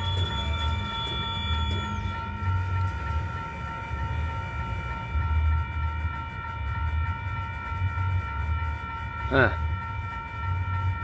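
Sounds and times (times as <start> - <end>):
freight train low rumble: 0.0 - 11.0
train high-pitched whine: 0.0 - 11.0.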